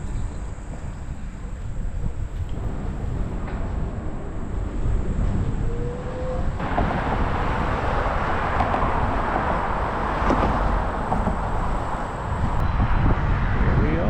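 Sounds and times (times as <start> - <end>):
tyre and road noise: 0.0 - 14.0
wind on microphone: 0.0 - 14.0.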